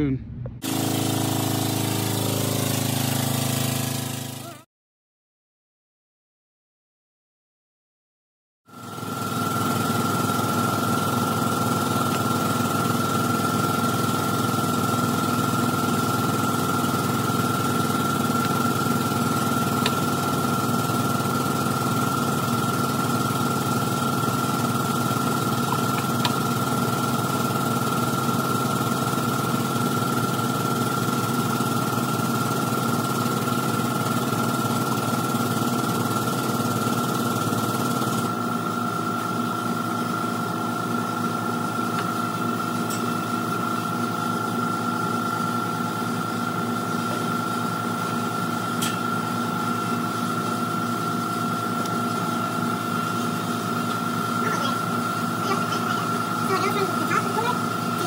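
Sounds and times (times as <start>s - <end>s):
motor whining and rumbling: 0.0s - 4.7s, 8.8s - 58.0s.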